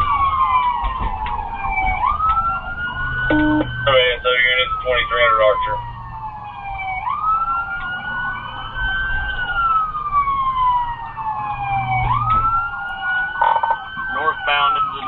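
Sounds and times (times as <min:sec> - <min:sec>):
car engine rumble: 0:00.0 - 0:14.9
police siren wailing: 0:00.0 - 0:15.0.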